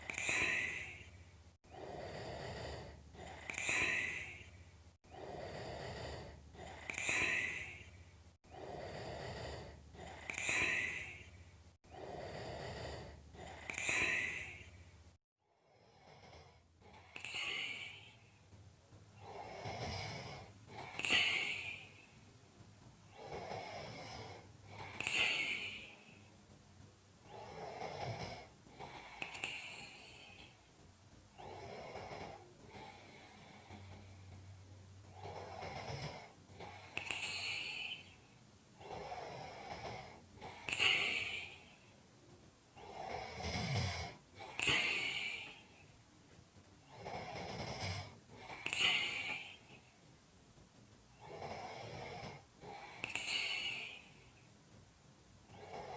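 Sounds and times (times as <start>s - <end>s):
person snoring: 0.0s - 14.8s, 15.6s - 18.4s, 19.2s - 22.2s, 23.1s - 26.2s, 27.3s - 30.6s, 31.4s - 34.3s, 35.1s - 38.2s, 38.8s - 41.9s, 42.8s - 45.9s, 46.9s - 49.9s, 51.2s - 54.3s, 55.5s - 55.9s.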